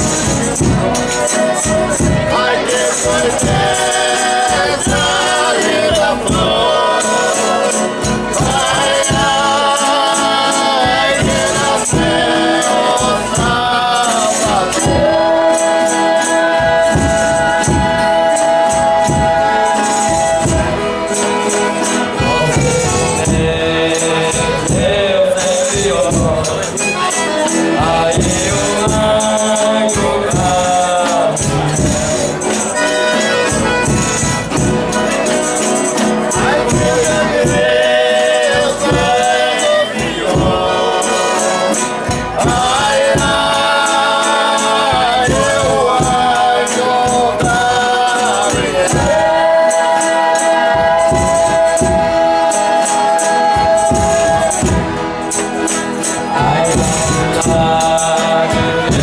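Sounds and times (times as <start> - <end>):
tambourines and percussion beat: 0.0 - 59.0.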